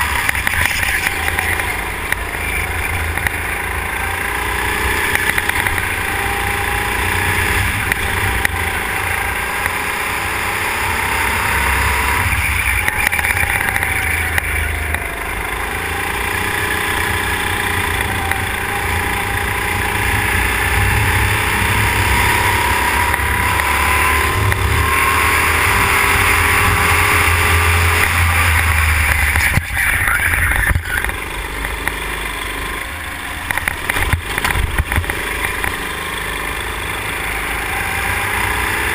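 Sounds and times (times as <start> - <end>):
go-kart engine running hard: 0.0 - 38.9.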